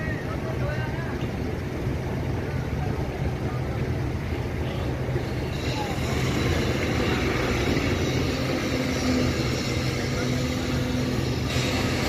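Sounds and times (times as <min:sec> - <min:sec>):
diesel truck engine running: 0:00.0 - 0:12.0
outdoor noise: 0:00.0 - 0:12.0.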